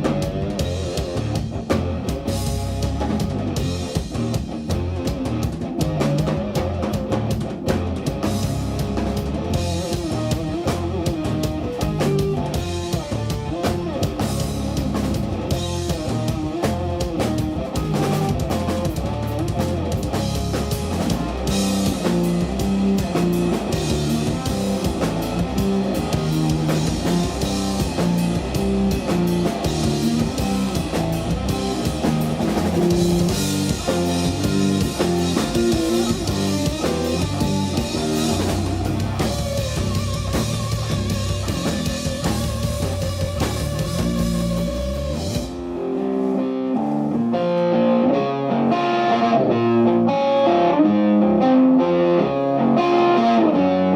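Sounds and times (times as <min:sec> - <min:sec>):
bass: 0:00.0 - 0:53.9
drum kit: 0:00.0 - 0:53.9
electric guitar lines: 0:00.0 - 0:53.9.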